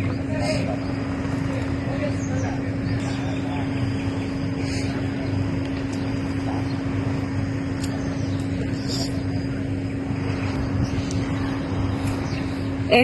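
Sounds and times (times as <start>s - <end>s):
low constant hum: 0.0s - 13.0s.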